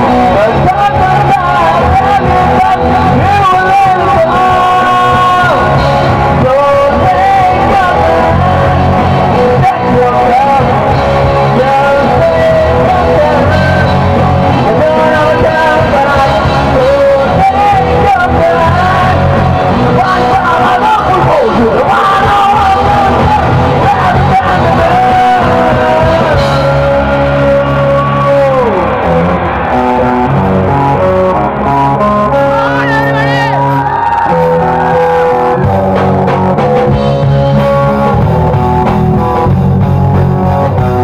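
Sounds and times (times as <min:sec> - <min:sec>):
man singing: 0:00.0 - 0:38.5
rock band playing live: 0:00.0 - 0:41.0.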